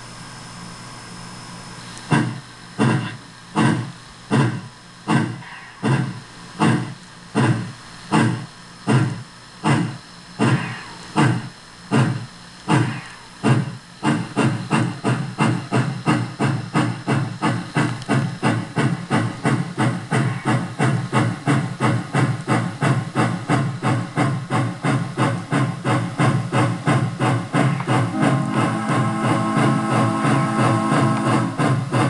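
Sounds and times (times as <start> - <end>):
steam locomotive exhaust chuffs: 1.8 - 32.0.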